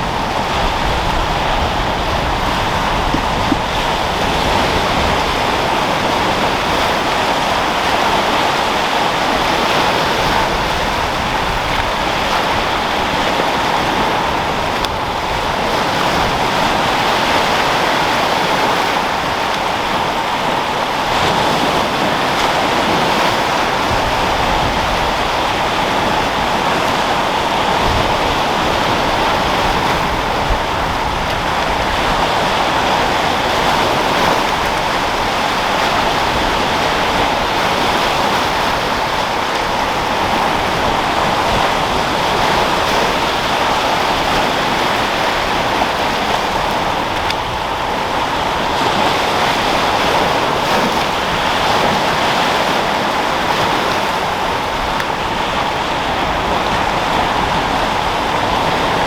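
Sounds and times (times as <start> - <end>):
sea waves breaking: 0.0 - 59.0
wind blowing: 0.0 - 59.0.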